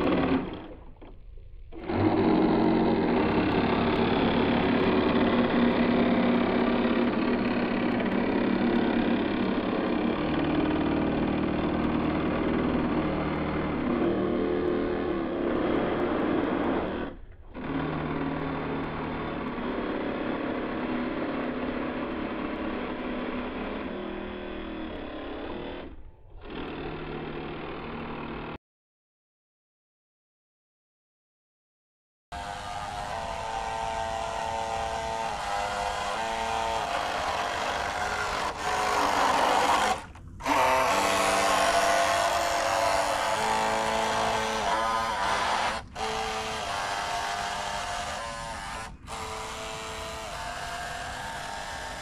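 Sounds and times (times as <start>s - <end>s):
low steady motor drone: 0.0s - 28.6s, 32.4s - 52.0s.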